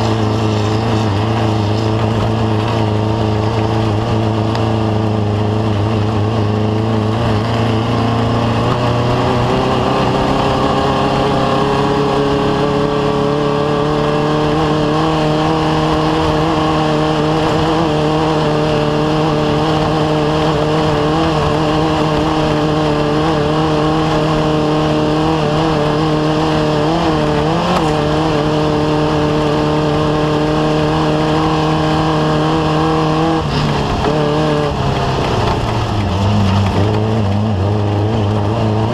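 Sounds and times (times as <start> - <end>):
engine at high revs: 0.0 - 38.9
steady rushing noise: 0.0 - 38.9.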